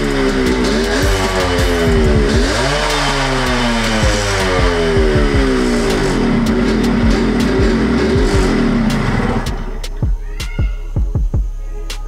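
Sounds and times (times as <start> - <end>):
two-stroke engine running: 0.0 - 10.2.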